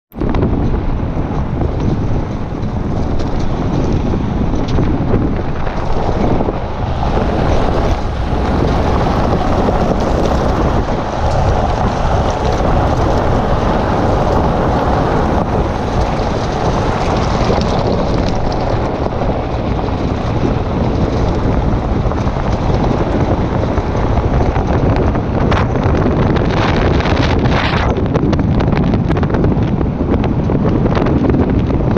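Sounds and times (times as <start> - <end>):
vehicle rumbling on road: 0.1 - 31.9
wind rushing over microphone: 0.1 - 31.9.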